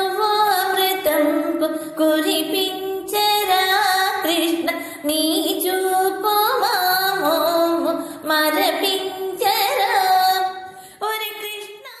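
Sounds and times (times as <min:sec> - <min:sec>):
woman singing devotional song: 0:00.0 - 0:12.0.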